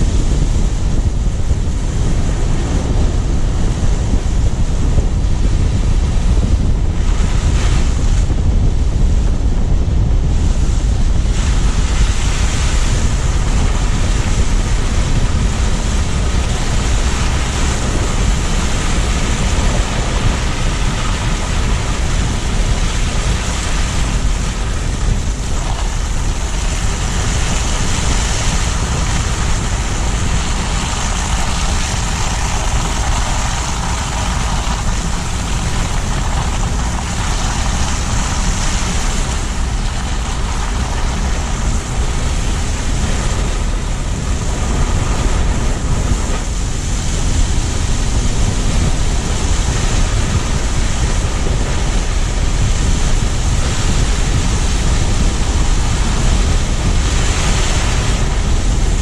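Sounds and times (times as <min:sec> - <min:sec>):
car driving road noise: 0:00.0 - 0:59.0.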